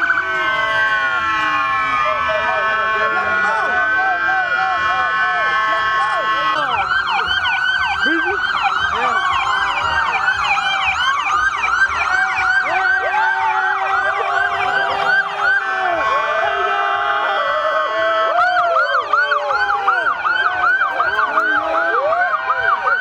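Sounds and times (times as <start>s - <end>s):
police sirens yelping: 0.0s - 23.0s.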